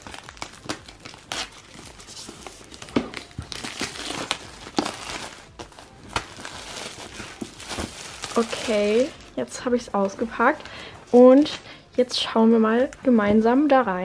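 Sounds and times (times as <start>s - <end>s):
plastic film crinkling and snapping: 0.0s - 11.7s.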